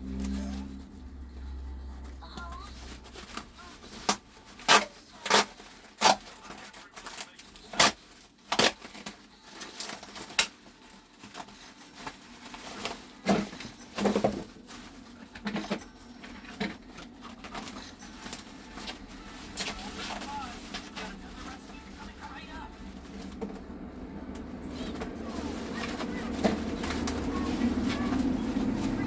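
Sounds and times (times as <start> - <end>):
packaging rustling: 0.2 - 29.0.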